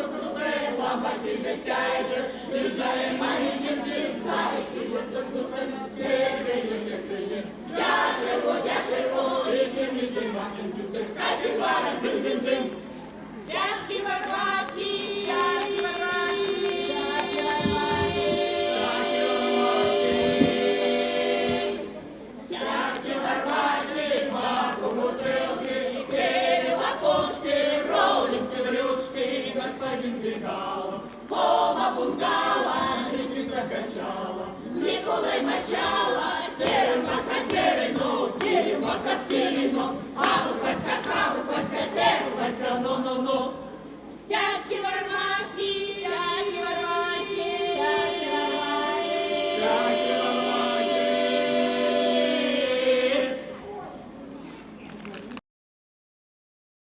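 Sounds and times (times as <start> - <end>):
folk choir singing: 0.0 - 53.7.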